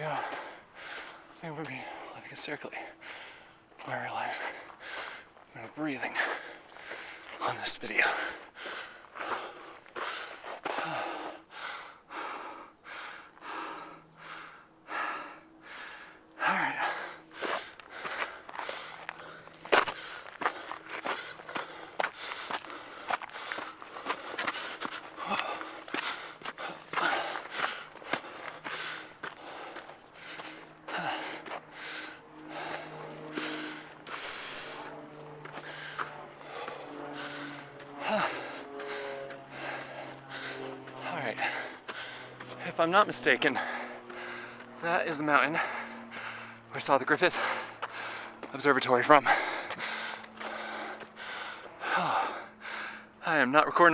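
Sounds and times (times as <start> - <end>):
person breathing heavily: 0.0 - 53.5.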